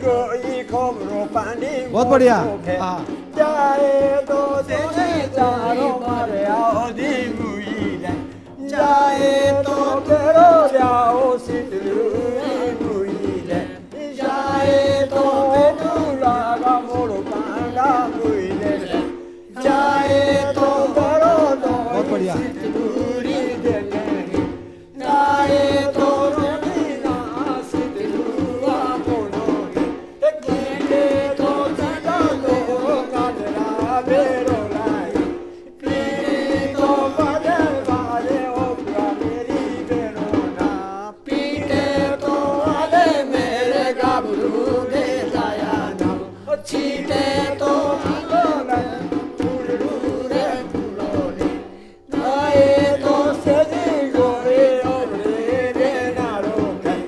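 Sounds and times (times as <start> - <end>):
dhol drum beat: 0.0 - 57.0
men singing folk song: 0.0 - 57.0.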